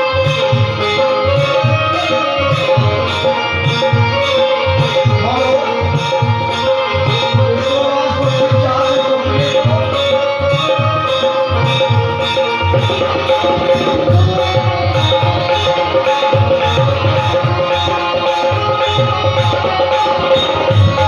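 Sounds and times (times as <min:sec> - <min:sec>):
tabla beat: 0:00.0 - 0:21.0.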